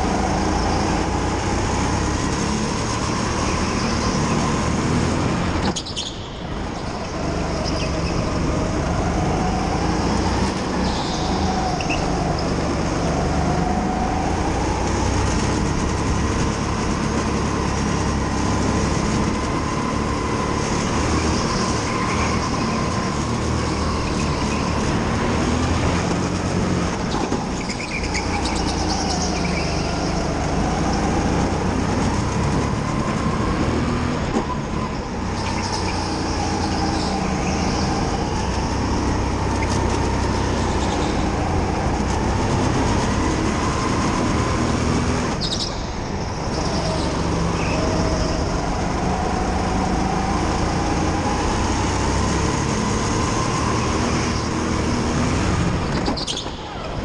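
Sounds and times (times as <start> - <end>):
go-kart motor whining: 0.0 - 57.0.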